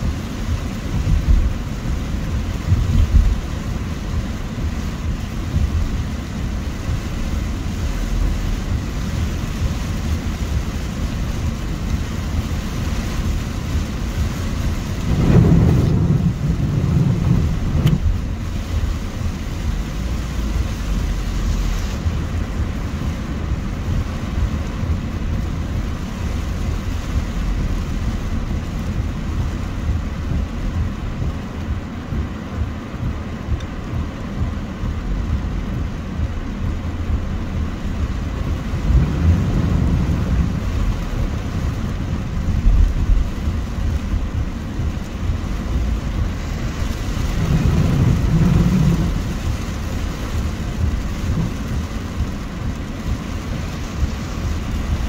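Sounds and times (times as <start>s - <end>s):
car engine and road noise: 0.0s - 55.0s
heavy rain on car roof: 0.0s - 55.0s.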